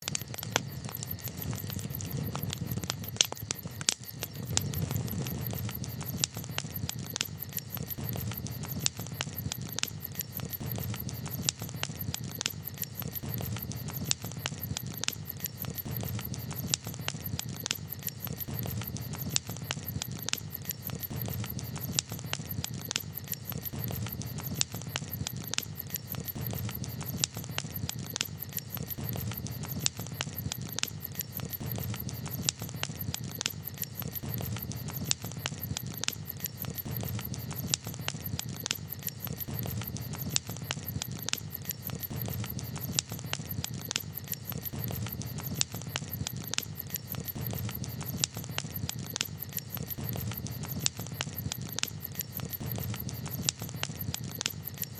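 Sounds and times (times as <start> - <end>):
low rumble of fire: 0.0 - 54.9
wood fire crackling: 0.0 - 54.9.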